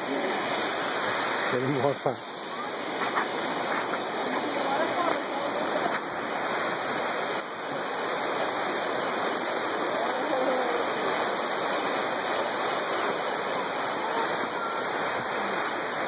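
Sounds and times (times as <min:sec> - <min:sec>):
waterfall and creek rushing: 0:00.0 - 0:16.0.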